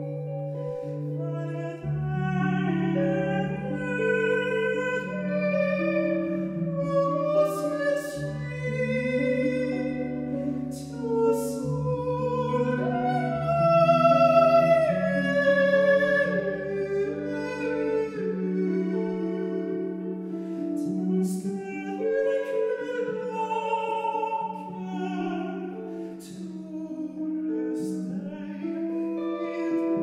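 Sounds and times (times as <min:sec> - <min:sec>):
sustained electric guitar: 0:00.0 - 0:30.0.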